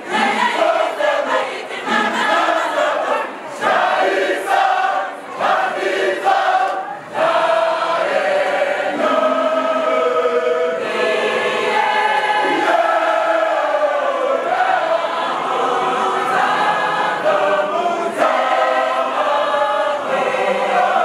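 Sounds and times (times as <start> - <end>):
mixed choir singing: 0.0 - 21.0.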